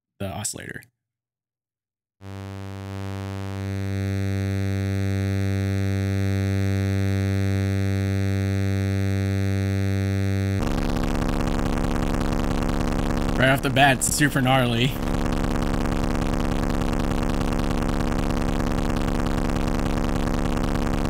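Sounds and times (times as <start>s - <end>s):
buzzy synthesizer tone: 2.2s - 21.0s.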